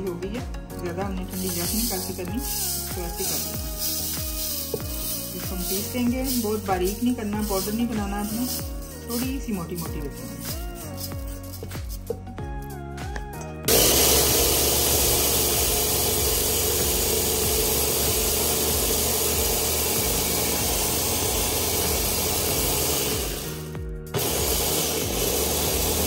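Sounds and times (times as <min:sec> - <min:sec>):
background music: 0:00.0 - 0:26.0
electric grinder grinding seeds: 0:00.0 - 0:26.0.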